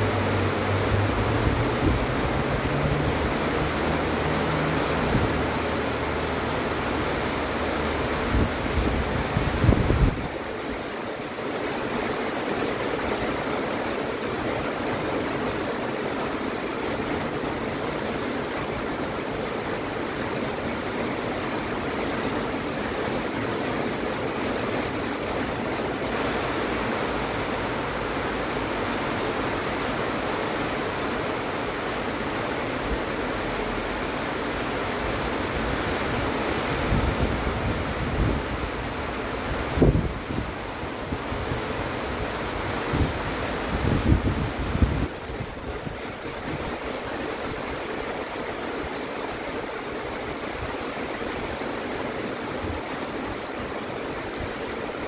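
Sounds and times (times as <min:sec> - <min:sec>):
heavy rain pouring: 0:00.0 - 0:55.0
water streaming off eave: 0:00.0 - 0:55.0.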